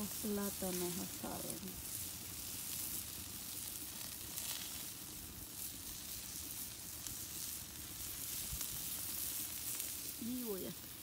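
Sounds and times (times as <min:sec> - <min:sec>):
fire crackles: 0:00.0 - 0:11.0
sausages sizzling on a grill: 0:00.0 - 0:11.0.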